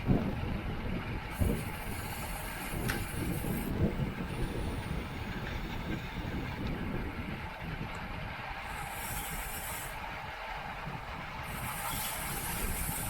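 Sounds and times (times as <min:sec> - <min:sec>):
road noise rushing: 0:00.0 - 0:13.0
wind buffeting microphone: 0:00.0 - 0:13.0.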